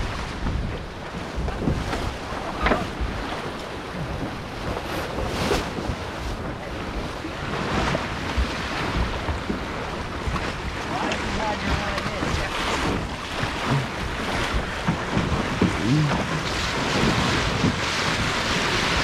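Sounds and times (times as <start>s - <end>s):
water splashing along hull: 0.0s - 19.0s
wind buffeting microphone: 0.0s - 19.0s.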